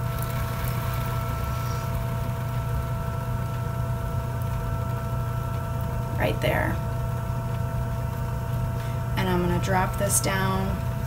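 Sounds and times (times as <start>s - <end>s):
potter's wheel motor hum: 0.0s - 11.0s.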